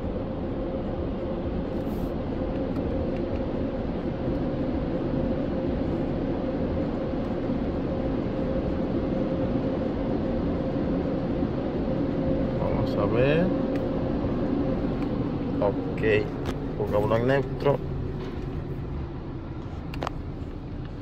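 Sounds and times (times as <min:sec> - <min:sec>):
car engine idling: 0:00.0 - 0:21.0
car wash machinery humming: 0:00.0 - 0:21.0.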